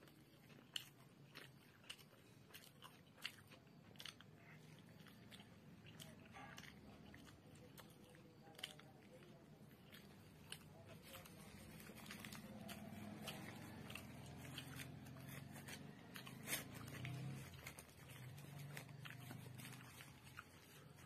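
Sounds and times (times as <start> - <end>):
chewing: 0.0 - 21.0
faint low hum: 0.0 - 21.0.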